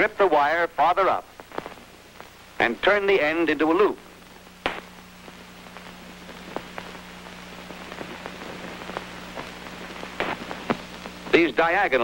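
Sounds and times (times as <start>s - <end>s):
faint crackles and pops: 0.0s - 12.0s
film soundtrack hiss: 0.0s - 12.0s.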